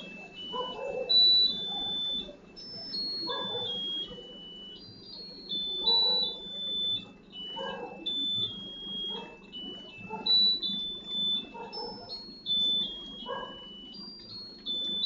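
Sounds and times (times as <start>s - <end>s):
electronic beeping tune: 0.0s - 15.0s
low steady murmur: 0.0s - 15.0s.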